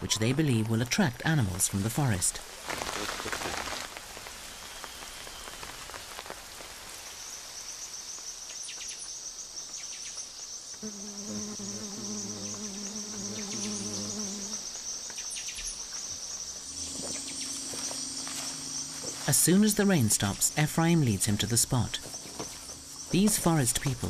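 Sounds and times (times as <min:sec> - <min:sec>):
insects trilling: 0:02.6 - 0:24.0.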